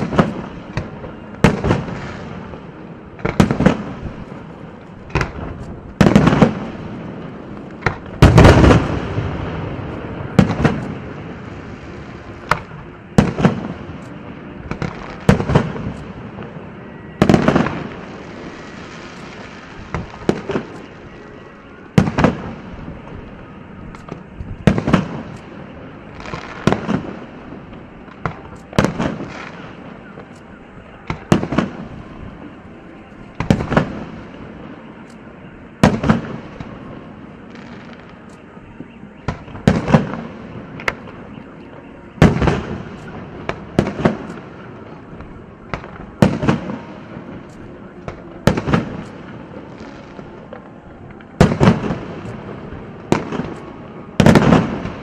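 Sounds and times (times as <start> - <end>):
fireworks bursting with sharp bangs: 0.0 - 55.0.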